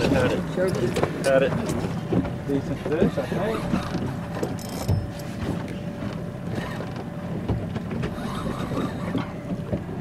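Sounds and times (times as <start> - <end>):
water slapping against hull: 0.0 - 10.0.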